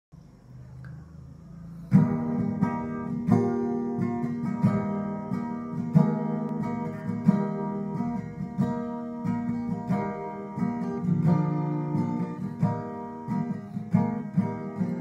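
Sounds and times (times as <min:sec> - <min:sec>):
acoustic guitar strumming chords: 0:00.8 - 0:15.0.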